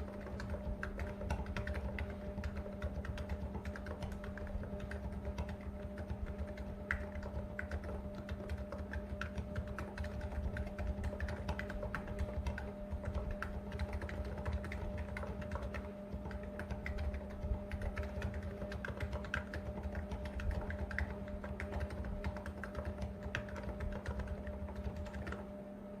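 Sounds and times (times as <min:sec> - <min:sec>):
keyboard typing: 0:00.0 - 0:25.5.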